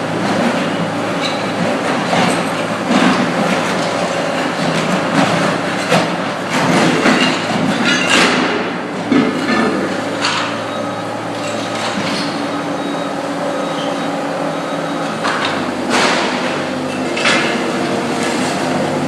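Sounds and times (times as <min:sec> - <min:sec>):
skid steer diesel engine running: 0:00.0 - 0:19.0.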